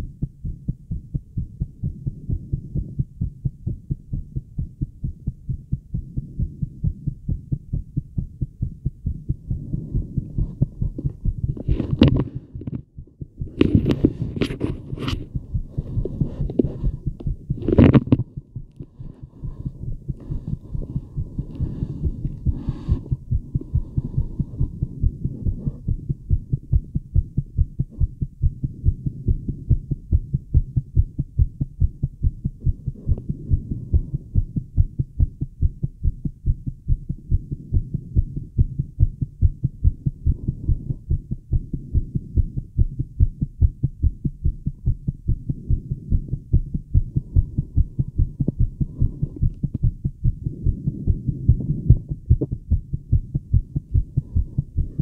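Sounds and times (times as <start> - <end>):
heartbeat through stethoscope: 0.0 - 55.0
steady low hum: 0.0 - 55.0.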